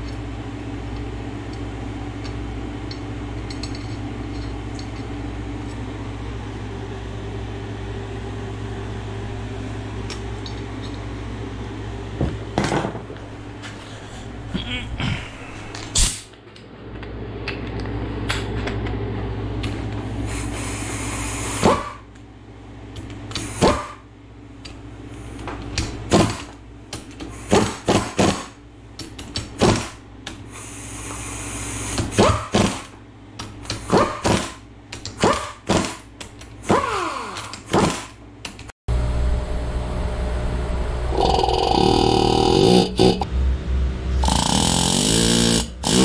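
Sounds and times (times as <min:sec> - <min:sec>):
steady low hum: 0:00.0 - 0:36.7, 0:38.2 - 0:46.0.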